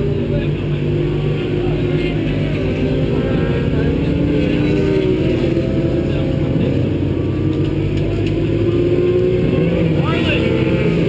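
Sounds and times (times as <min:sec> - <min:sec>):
car engine running hard: 0:00.0 - 0:11.0
wind and road noise: 0:00.0 - 0:11.0.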